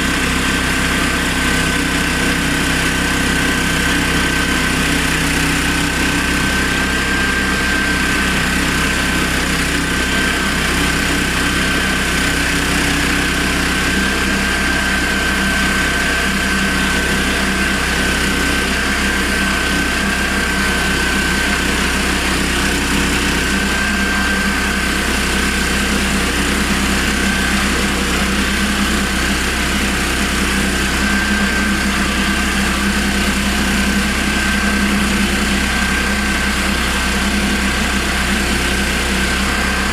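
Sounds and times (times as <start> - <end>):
petrol engine running: 0.0 - 39.9
sawmill high whine: 0.0 - 39.9.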